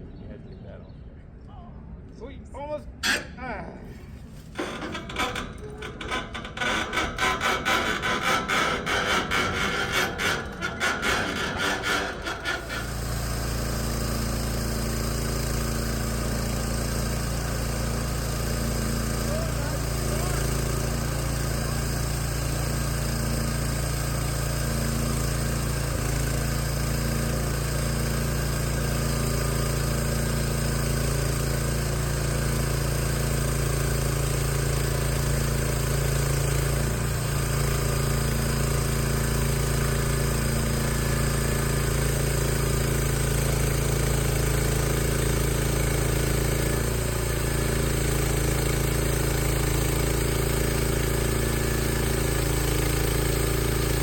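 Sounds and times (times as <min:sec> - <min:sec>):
sawmill gas engine running: 0:04.0 - 0:54.0.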